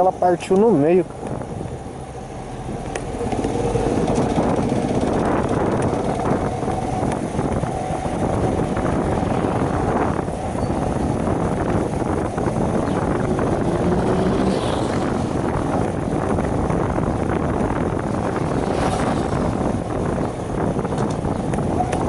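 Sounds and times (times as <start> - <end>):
motorcycle engine hum: 0.0 - 22.0
wind buffeting microphone: 0.0 - 22.0.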